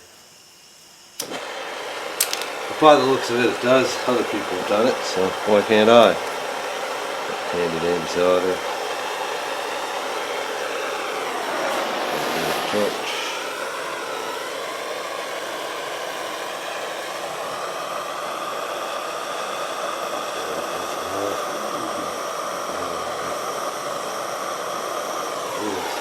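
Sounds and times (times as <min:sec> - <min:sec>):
torch hissing: 0:00.0 - 0:26.0.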